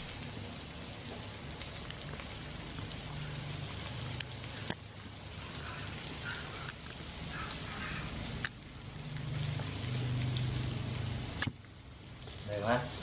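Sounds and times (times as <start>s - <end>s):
prawns sizzling in a wok: 0.0s - 13.0s.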